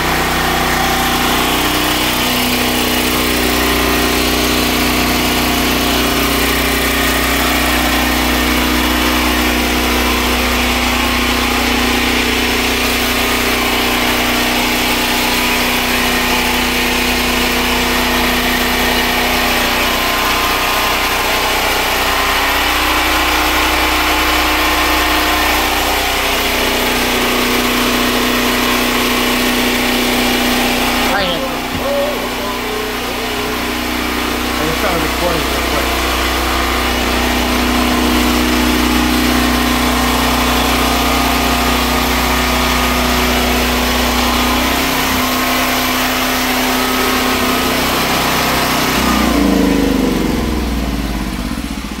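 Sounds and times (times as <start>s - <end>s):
machinery motor hum: 0.0s - 52.0s.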